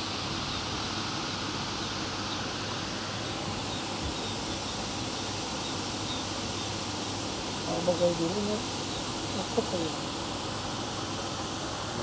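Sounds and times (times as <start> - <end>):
even outdoor hiss: 0.0 - 12.0.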